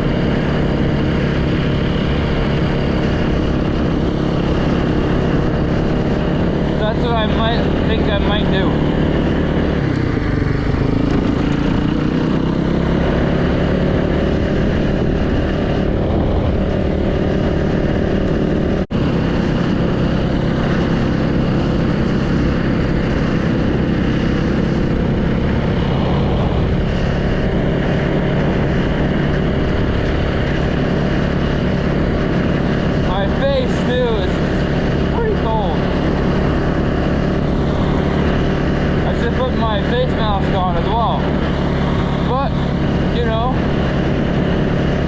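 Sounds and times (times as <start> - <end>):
dirt bike engine running: 0.0 - 45.0.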